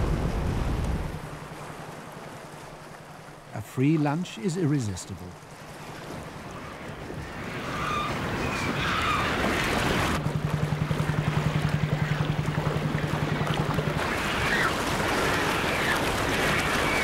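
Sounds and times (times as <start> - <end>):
sea water splashing: 0.0 - 17.0
underwater boat engine hum: 0.0 - 17.0
seabird calls: 2.3 - 17.0.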